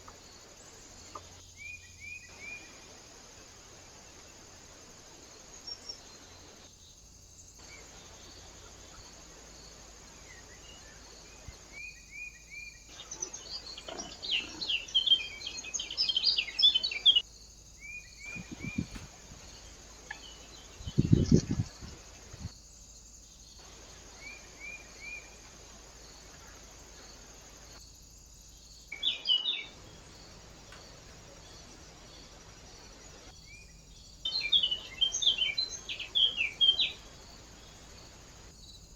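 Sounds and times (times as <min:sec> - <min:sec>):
faint hiss: 0:00.0 - 0:38.9
small birds chirping: 0:00.0 - 0:38.9.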